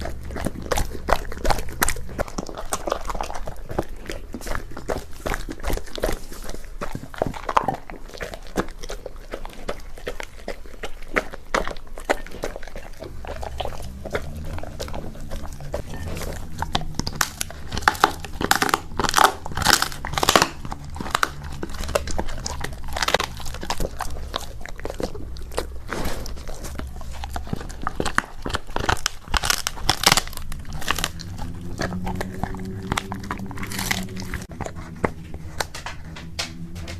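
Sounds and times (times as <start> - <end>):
dog crunching and chewing bone: 0.0 - 36.9.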